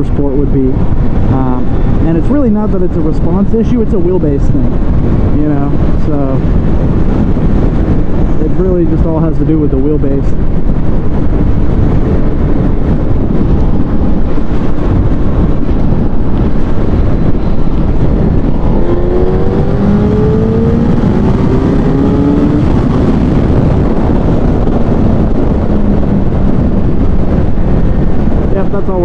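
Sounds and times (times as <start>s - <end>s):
motorcycle engine at speed: 0.0s - 29.0s
wind noise on microphone: 0.0s - 29.0s.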